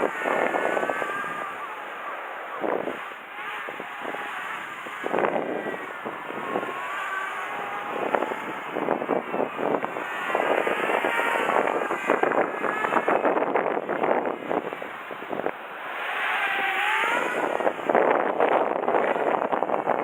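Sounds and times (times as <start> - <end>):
electric motors whining: 0.0 - 20.0
wind buffeting microphone: 0.0 - 20.0.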